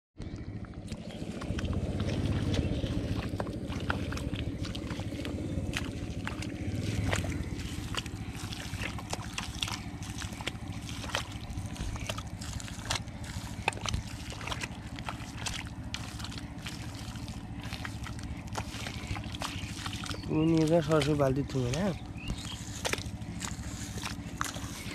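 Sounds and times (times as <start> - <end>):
hands squelching through wet mud: 0.2 - 24.9
low rumble: 0.2 - 24.9.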